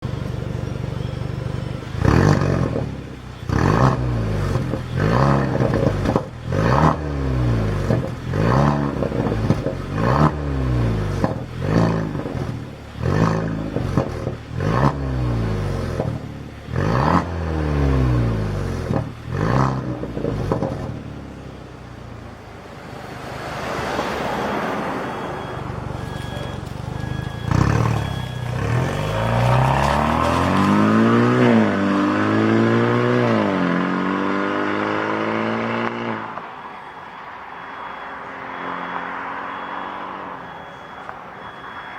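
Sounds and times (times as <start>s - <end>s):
car engine throttle blips: 0.0s - 22.6s, 24.8s - 41.9s.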